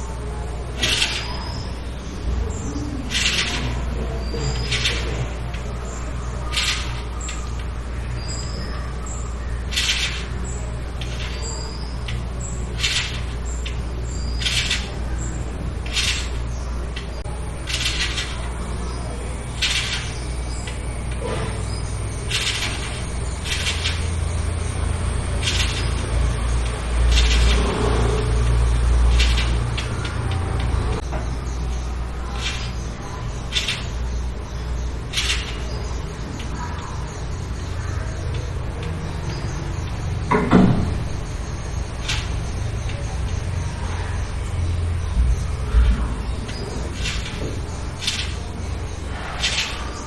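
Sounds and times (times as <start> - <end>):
steady low hum: 0.0 - 50.0
steady low rumble: 0.0 - 50.0.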